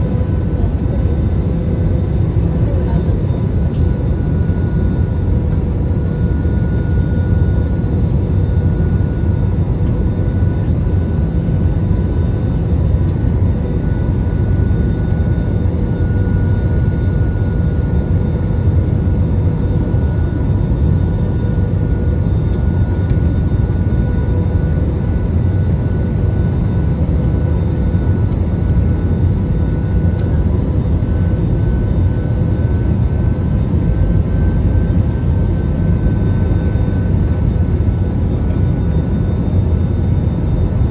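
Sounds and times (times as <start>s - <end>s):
jet airliner cabin noise: 0.0s - 40.9s.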